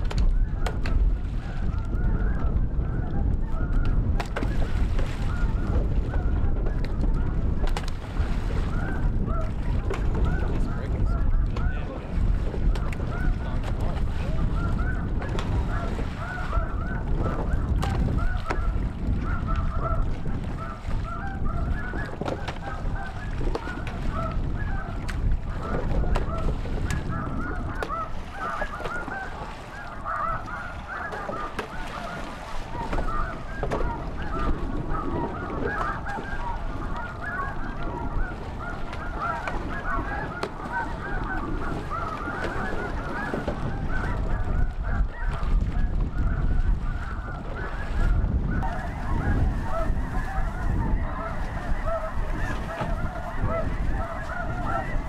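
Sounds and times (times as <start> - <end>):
geese honking: 1.4 - 3.9, 5.3 - 7.4, 8.6 - 12.0, 12.7 - 13.6, 14.2 - 55.0.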